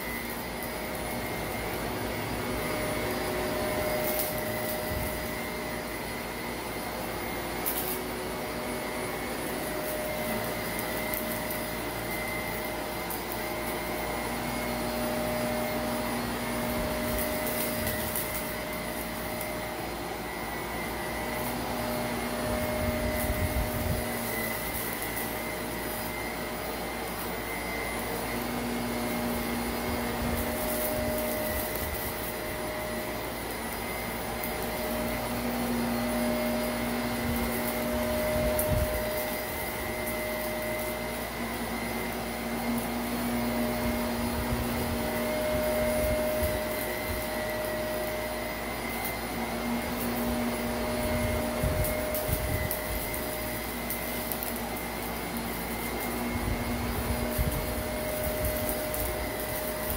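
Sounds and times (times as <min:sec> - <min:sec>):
debris crackling in vacuum: 0:00.0 - 0:59.9
vacuum cleaner motor whine: 0:00.0 - 0:59.9.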